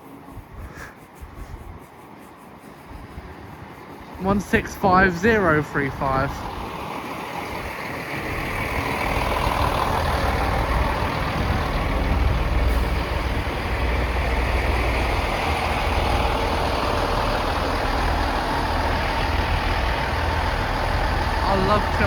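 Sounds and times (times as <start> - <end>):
train diesel engines rumbling: 0.0 - 22.0.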